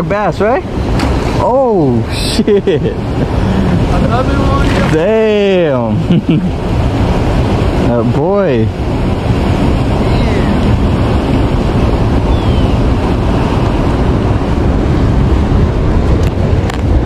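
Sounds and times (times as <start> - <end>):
rushing spillway water: 0.0 - 17.0
wind buffeting microphone: 0.0 - 17.0.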